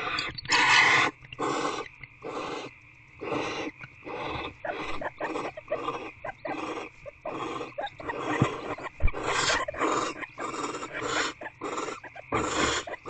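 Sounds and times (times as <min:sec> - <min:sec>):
owls hissing: 0:00.0 - 0:13.0.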